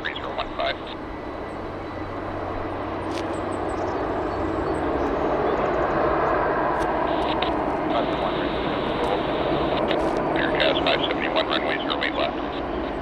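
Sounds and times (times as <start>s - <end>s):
jet airliner engine rushing: 0.0s - 13.0s.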